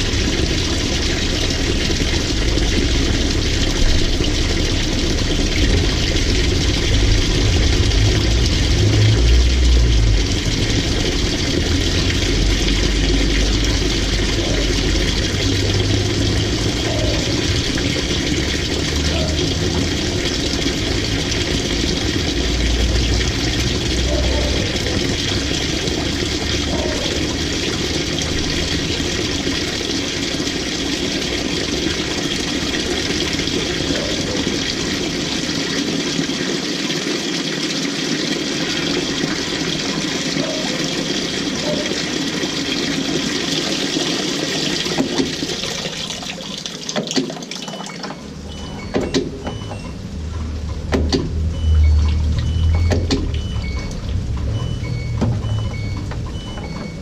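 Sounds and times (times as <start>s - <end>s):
washing machine motor rumble: 0.0s - 57.0s
water sloshing in washing machine: 0.0s - 57.0s.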